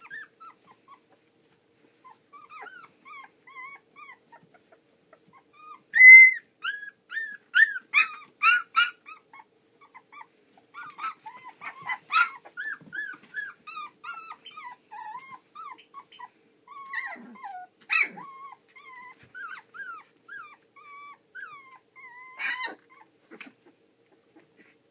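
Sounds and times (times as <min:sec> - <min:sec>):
puppies yipping and whimpering: 0:00.0 - 0:01.2, 0:02.0 - 0:24.8.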